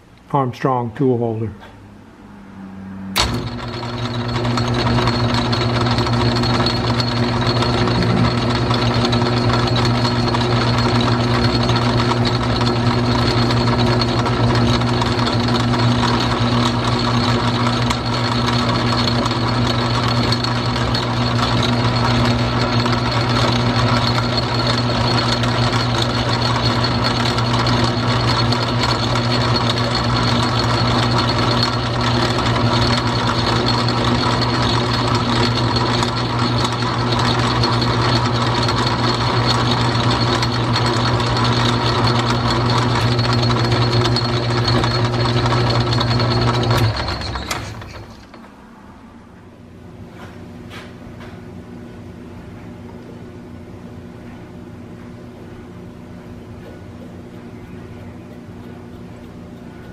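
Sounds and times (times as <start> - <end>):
metal lathe running: 3.2 - 48.9, 57.2 - 59.9.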